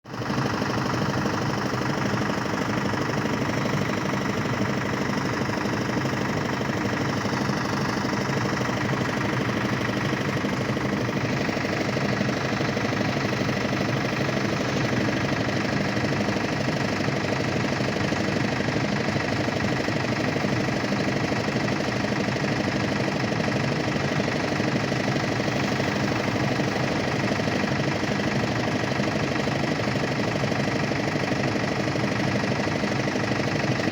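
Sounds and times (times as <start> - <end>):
machine engine running: 0.1 - 33.9.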